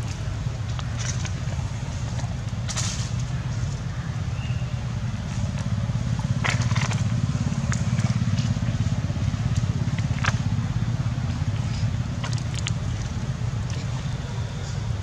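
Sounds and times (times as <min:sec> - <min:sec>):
motor rumbling: 0:00.0 - 0:15.0.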